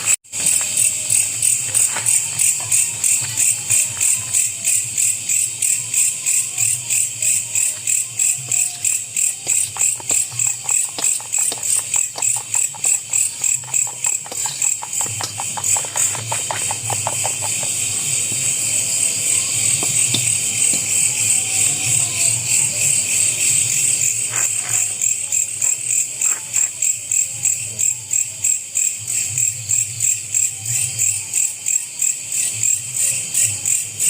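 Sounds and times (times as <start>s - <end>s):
night insects chirping: 0.0s - 34.0s.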